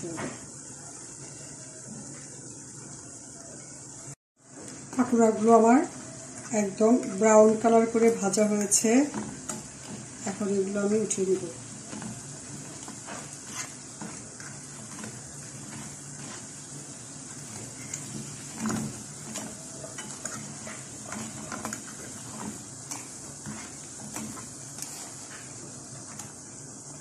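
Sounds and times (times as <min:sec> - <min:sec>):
food sizzling in hot oil: 0:00.0 - 0:27.0.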